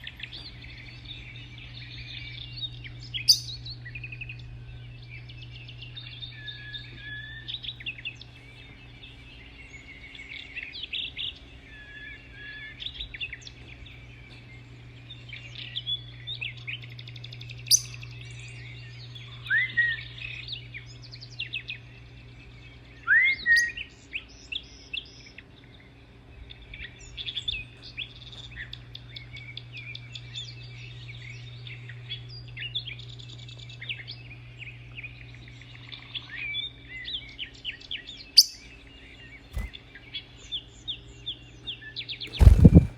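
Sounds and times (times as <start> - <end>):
sharp bird calls and whistles: 0.0 - 42.9
small birds chirping: 0.0 - 42.9
steady low hum: 0.0 - 42.9.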